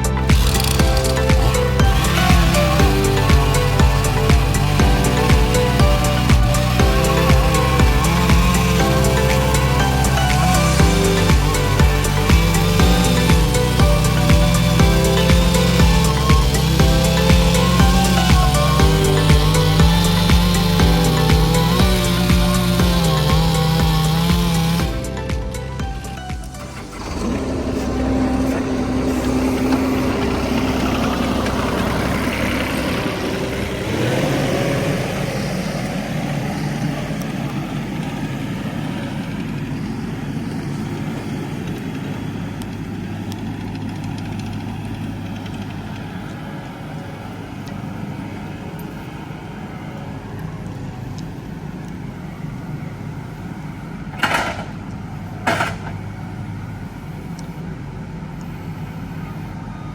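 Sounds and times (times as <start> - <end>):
heavy equipment engine running: 0.0 - 59.9.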